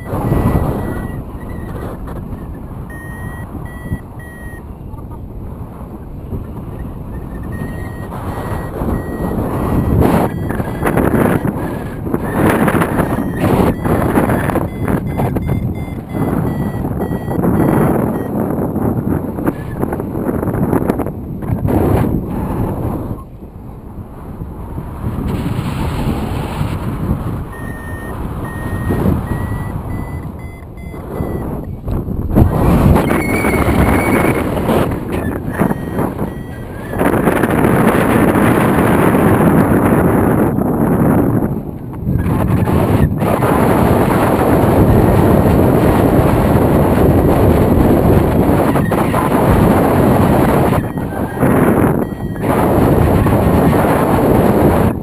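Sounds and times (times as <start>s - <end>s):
variometer beeping: 0.0s - 5.2s, 6.4s - 21.6s, 27.3s - 41.4s, 42.2s - 55.0s
wind rush on microphone: 0.0s - 55.0s.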